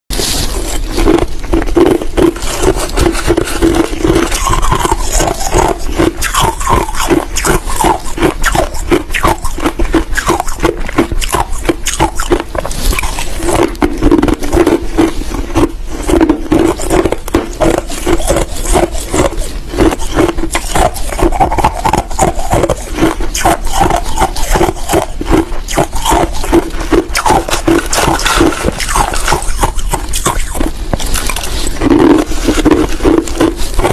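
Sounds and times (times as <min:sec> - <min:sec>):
crushed ice being chewed: 0:00.1 - 0:33.9.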